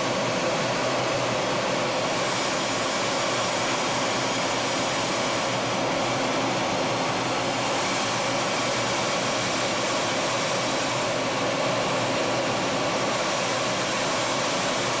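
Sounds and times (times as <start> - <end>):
jet engine and airflow rushing: 0.0 - 15.0.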